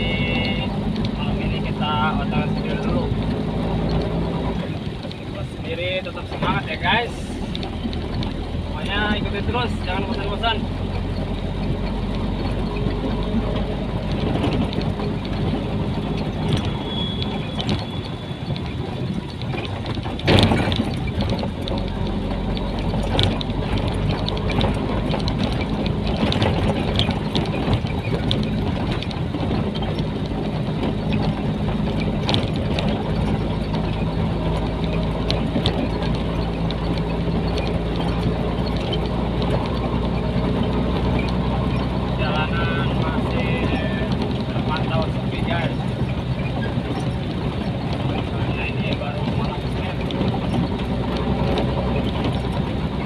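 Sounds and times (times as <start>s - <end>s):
cab rattles and clicks: 0.0s - 53.0s
diesel truck engine running: 0.0s - 53.0s.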